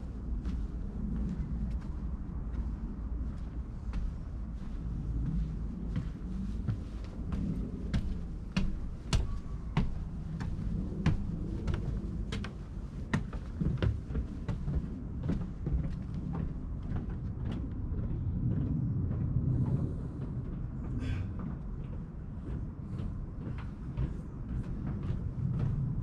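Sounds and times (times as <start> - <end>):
footsteps on wooden stairs: 0.0 - 19.4, 20.2 - 26.0
steady low rumble: 0.0 - 26.0.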